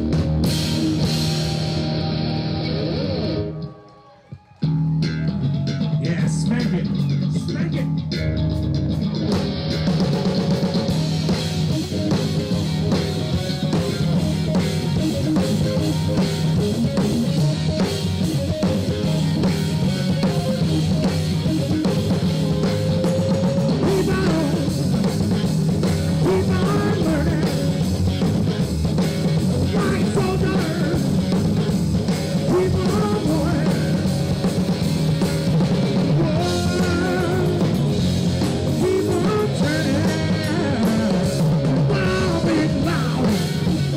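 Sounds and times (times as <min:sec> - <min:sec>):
live rock band playing: 0:00.0 - 0:43.9
bass drum and snare beat: 0:04.6 - 0:43.9.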